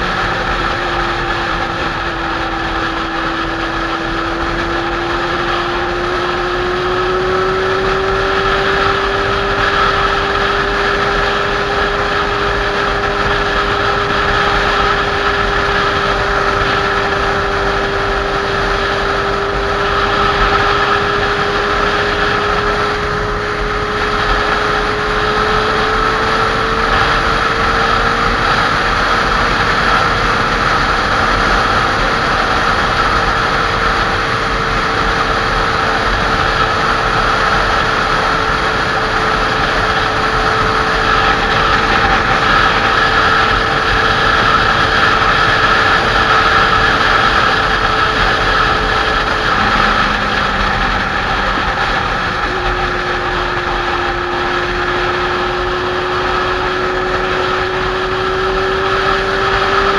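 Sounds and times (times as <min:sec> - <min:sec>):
motorcycle engine droning: 0:00.0 - 0:59.9
wind and road noise: 0:00.0 - 0:59.9.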